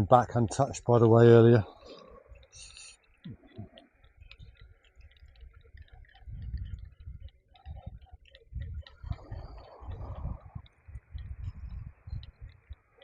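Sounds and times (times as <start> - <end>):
light clicks: 1.6 - 13.0.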